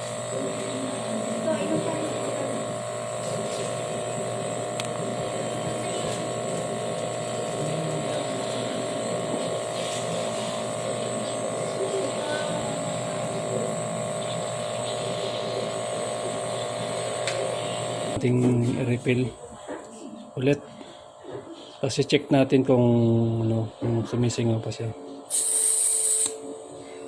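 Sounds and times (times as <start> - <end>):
motor-like buzz with low hum: 0.0 - 21.8.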